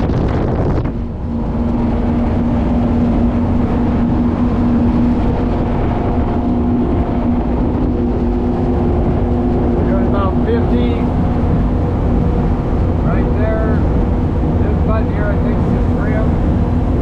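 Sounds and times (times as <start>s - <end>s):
boat engine droning: 0.0s - 17.0s
water rushing against hull: 0.0s - 17.0s.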